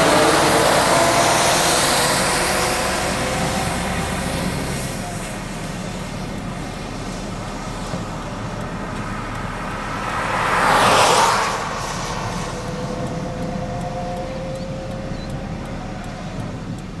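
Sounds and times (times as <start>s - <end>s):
vehicle passing close by: 0.0s - 5.3s, 6.0s - 16.8s
road and vehicle noise: 0.0s - 17.0s.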